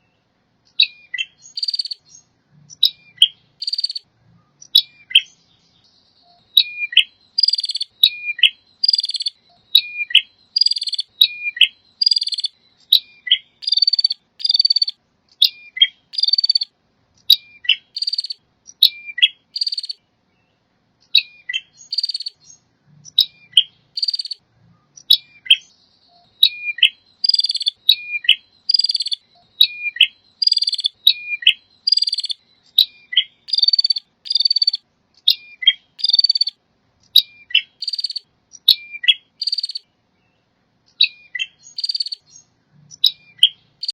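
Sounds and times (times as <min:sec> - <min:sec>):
bird singing buzzy phrases: 0:00.0 - 0:43.9.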